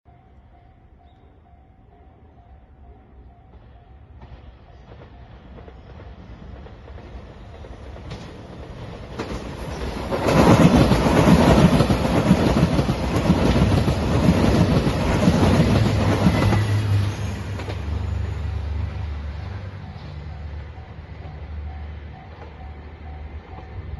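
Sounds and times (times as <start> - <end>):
diesel train passing: 0.1 - 23.9
wheels clattering on rails: 3.5 - 23.8.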